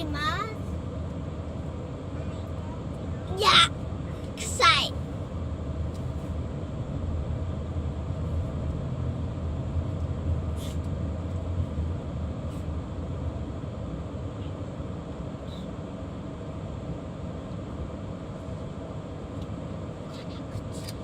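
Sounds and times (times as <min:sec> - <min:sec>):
car engine rumbling: 0:00.0 - 0:21.0
road noise: 0:00.0 - 0:21.0.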